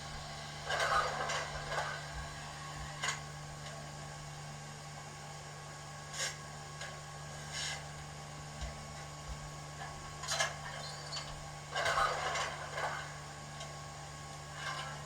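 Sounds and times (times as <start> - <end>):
steady hum from small speaker: 0.0 - 15.0.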